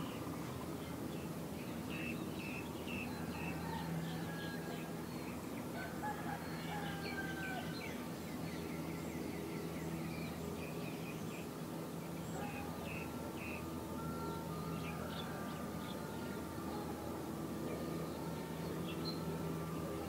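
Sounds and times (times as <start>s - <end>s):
birds chirping and whistling: 0.0s - 20.0s
steady low hum: 0.0s - 20.0s.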